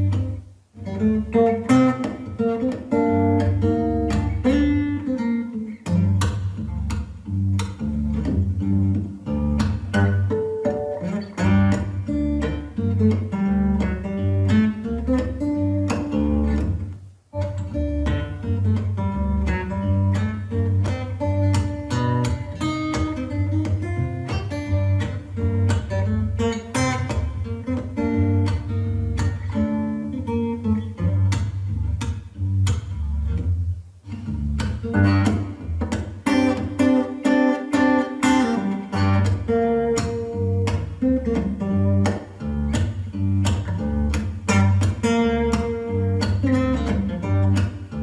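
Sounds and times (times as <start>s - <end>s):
guitar instrumental music: 0.0s - 48.0s.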